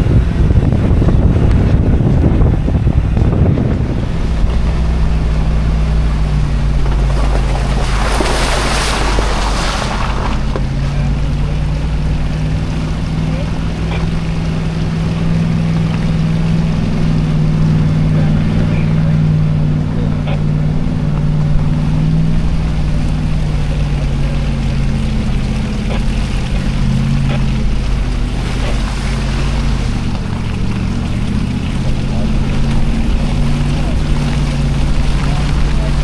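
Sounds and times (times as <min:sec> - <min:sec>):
engine running at low revs: 0:00.0 - 0:36.0.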